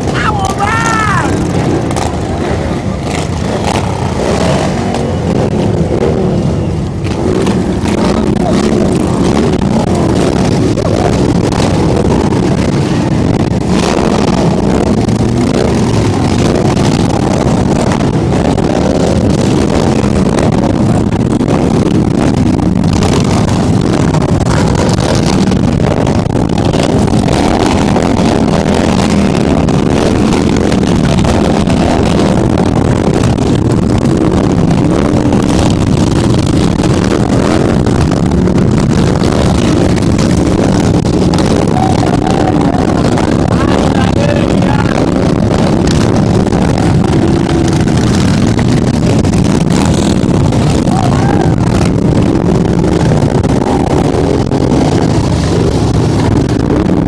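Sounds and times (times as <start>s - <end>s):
motorcycle engines running: 0.0s - 57.0s.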